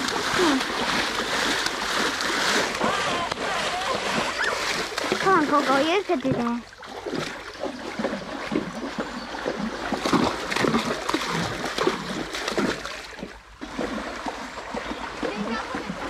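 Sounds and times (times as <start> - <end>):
pony splashing through water: 0.0 - 16.0.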